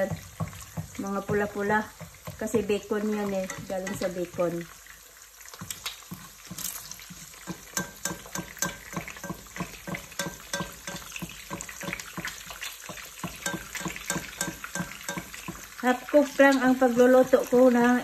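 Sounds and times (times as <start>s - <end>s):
fat crackling and popping in pan: 0.0s - 18.0s
spatula working in pan: 0.0s - 18.0s.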